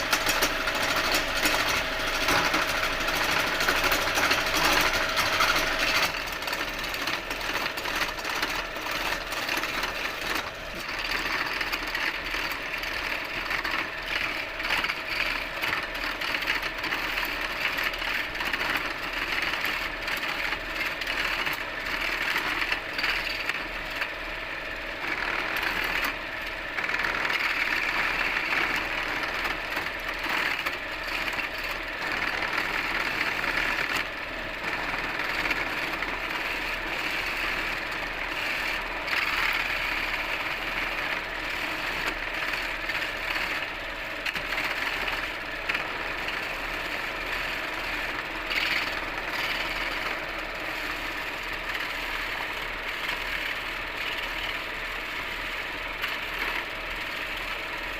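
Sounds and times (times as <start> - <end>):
tool cutting spinning wood: 0.0 - 57.9
wood lathe motor hum: 0.0 - 57.9.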